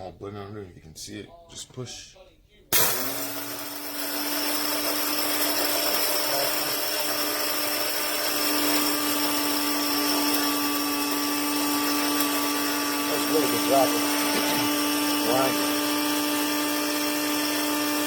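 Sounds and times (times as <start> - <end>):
blade coffee grinder running: 2.8 - 18.0.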